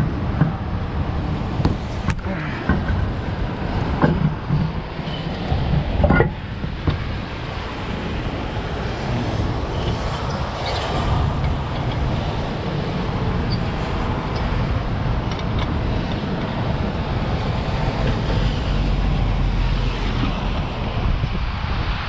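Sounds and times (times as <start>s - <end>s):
freeway traffic: 0.0s - 22.0s.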